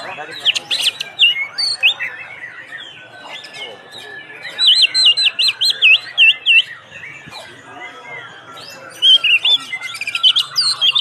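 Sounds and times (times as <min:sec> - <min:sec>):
bird twittering: 0:00.0 - 0:11.0
bird whistling song: 0:00.0 - 0:11.0.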